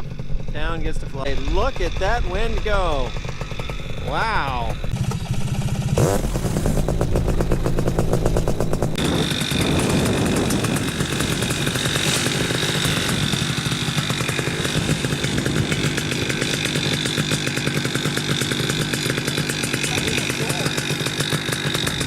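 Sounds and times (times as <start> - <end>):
two-stroke paramotor engine running: 0.0 - 22.0.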